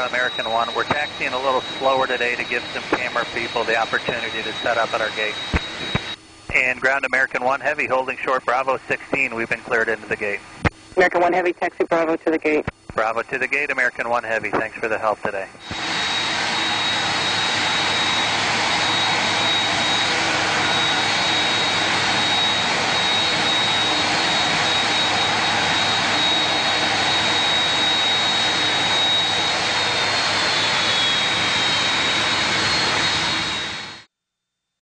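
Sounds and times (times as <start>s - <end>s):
high steady whine: 0.0s - 34.1s
jet engines idling: 0.0s - 34.1s.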